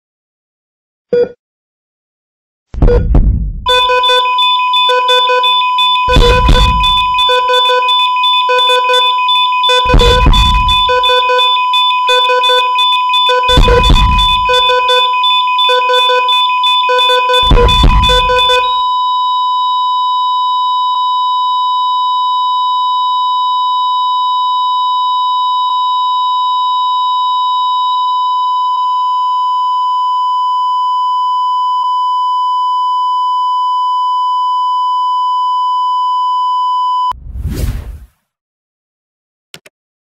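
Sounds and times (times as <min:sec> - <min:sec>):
continuous high-pitched monitor beep: 0:03.7 - 0:37.2.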